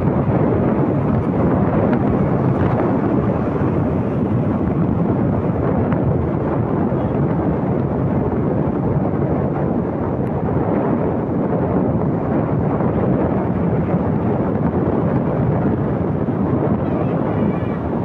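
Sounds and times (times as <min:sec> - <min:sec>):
motorcycle road noise: 0:00.0 - 0:18.0
wind buffeting microphone: 0:00.0 - 0:18.0.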